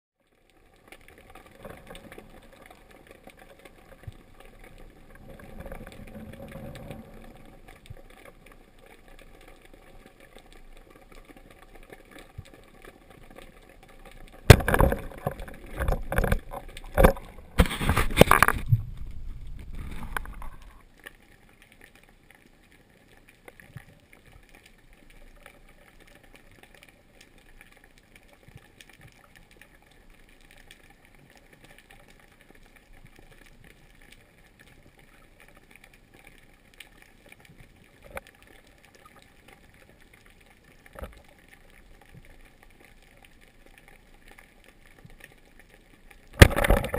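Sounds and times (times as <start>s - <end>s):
faint underwater hiss and rumble: 0.2s - 46.9s.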